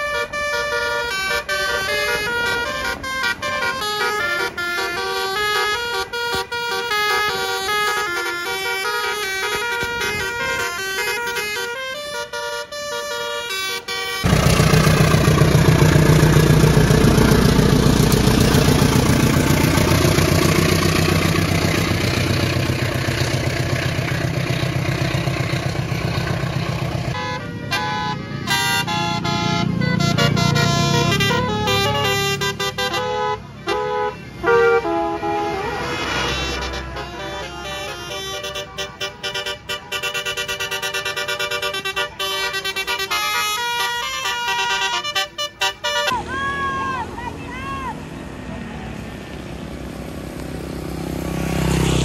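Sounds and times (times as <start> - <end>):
multi-tone bus horn tune: 0.0 - 47.8
heavy bus engine rumble: 0.0 - 52.0.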